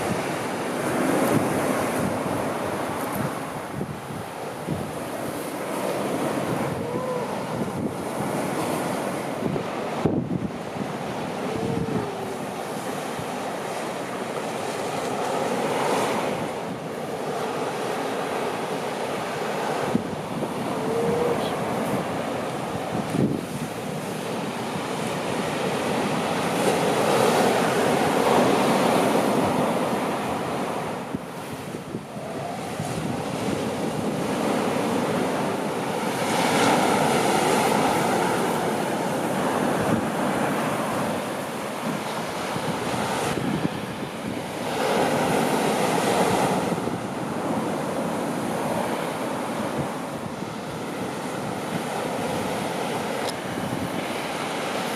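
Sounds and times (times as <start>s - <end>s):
surf washing on sandy beach: 0.0s - 54.9s
wind gusting on microphone: 0.0s - 54.9s.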